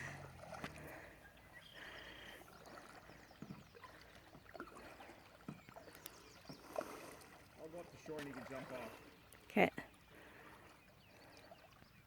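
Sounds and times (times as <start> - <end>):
water lapping and dripping: 0.0 - 12.0.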